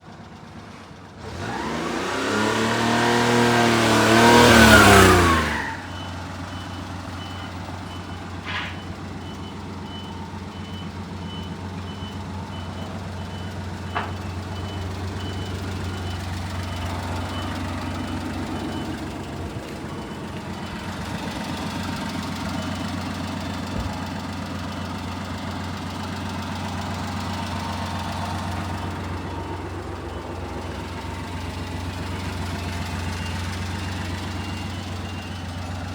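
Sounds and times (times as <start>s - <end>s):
truck engine starting and revving: 0.0s - 35.9s.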